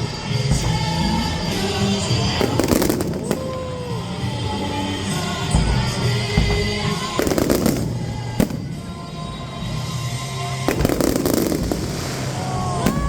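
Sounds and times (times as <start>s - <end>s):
fireworks crackling and banging: 0.0s - 13.0s
music playing: 0.0s - 13.0s.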